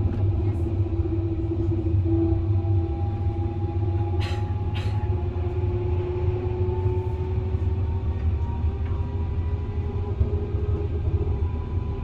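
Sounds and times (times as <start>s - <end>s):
train rumble in tunnel: 0.0s - 12.0s
train whine: 0.0s - 12.0s.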